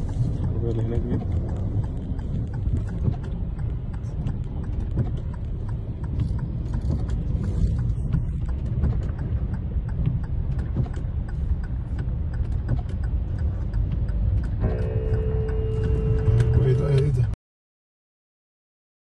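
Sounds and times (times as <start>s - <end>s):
car driving through water: 0.0s - 17.3s
raindrops ticking on car: 0.0s - 17.4s.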